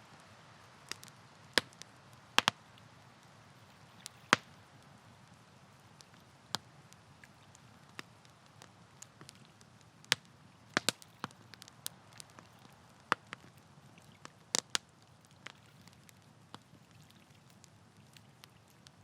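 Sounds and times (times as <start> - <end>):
faint low hiss: 0.0 - 19.0
wood campfire crackling: 0.0 - 19.0.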